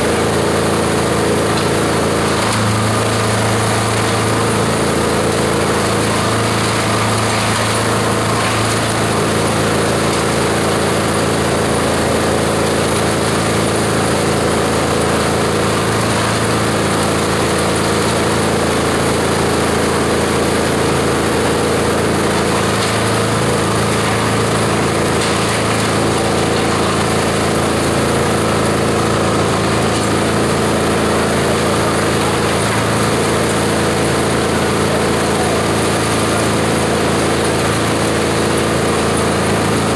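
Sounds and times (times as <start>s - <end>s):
shredder machine humming: 0.0s - 39.9s.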